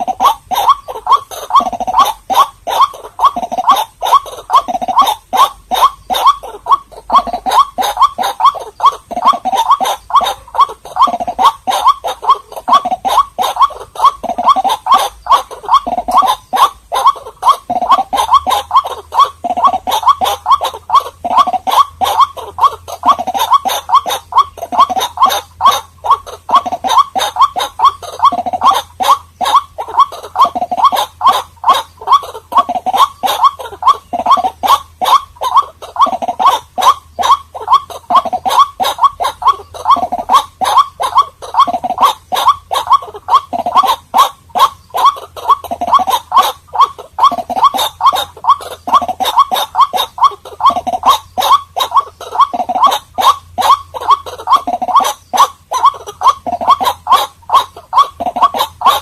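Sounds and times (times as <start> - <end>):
bird croaking call: 0.0 - 59.0.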